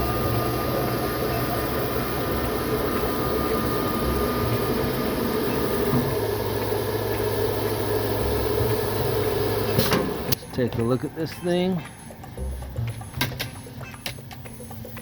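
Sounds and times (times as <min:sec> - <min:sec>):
machine humming and whirring: 0:00.0 - 0:15.0.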